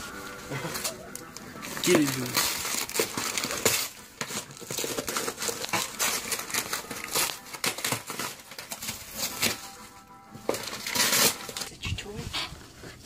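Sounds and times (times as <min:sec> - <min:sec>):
wrapping paper crinkling and tearing: 0:00.0 - 0:12.8.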